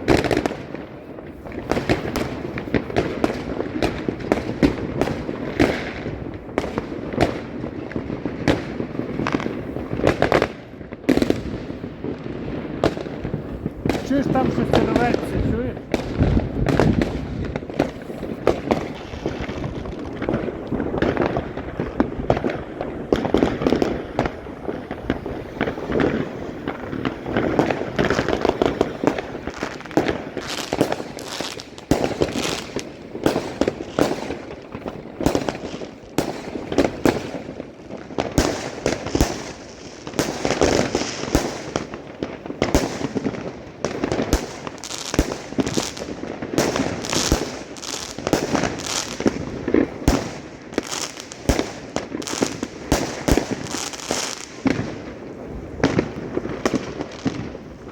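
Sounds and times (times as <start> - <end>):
fireworks bangs and crackling: 0.0 - 57.9.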